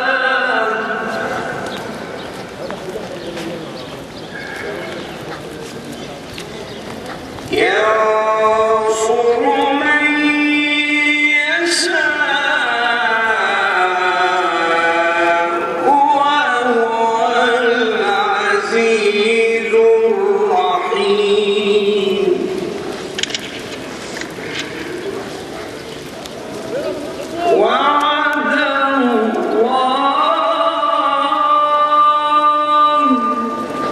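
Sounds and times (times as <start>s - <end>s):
person chanting held notes: 0.0s - 23.1s, 24.2s - 33.9s.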